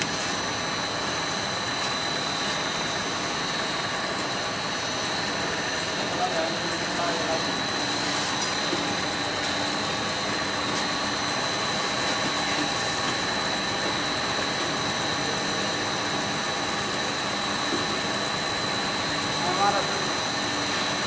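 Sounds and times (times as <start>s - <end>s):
high-pitched machine whine: 0.0s - 21.0s
machine mechanical hum: 0.0s - 21.0s.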